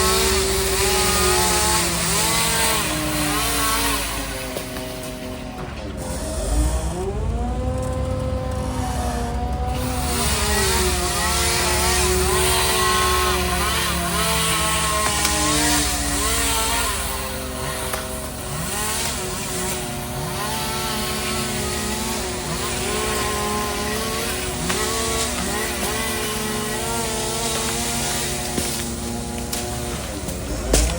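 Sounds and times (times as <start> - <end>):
chainsaw revving: 0.0 - 30.9.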